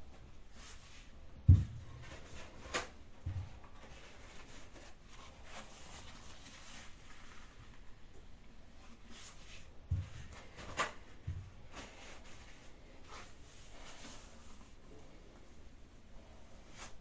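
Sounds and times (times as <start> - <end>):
soft rustling and scraping: 0.0 - 17.0.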